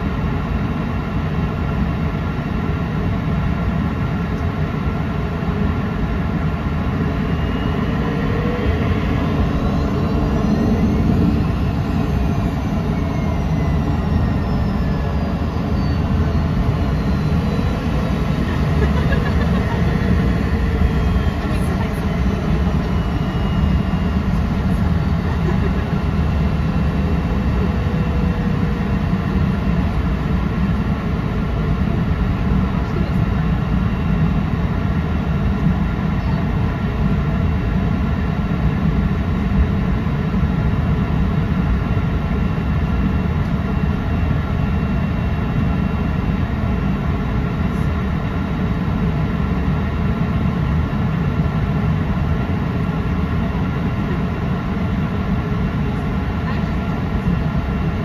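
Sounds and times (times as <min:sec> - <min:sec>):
jet engines low rumble: 0:00.0 - 0:58.0
turbine whining tones: 0:00.0 - 0:58.0.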